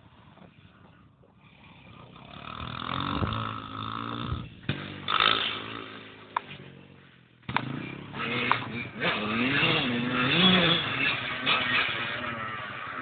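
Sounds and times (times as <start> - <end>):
motorbike engine revving: 1.6 - 13.0.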